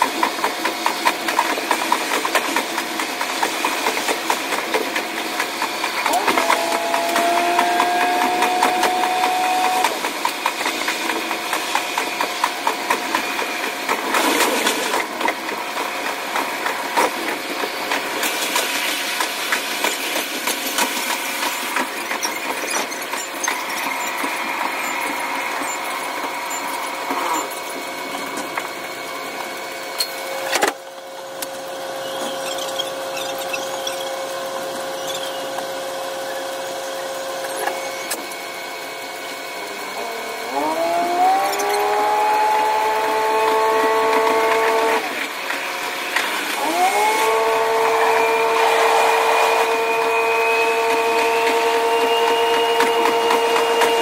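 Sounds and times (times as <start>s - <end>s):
wheels clicking over rails: 0.0s - 36.3s, 40.5s - 54.0s
high-pitched diesel engine: 0.0s - 54.0s.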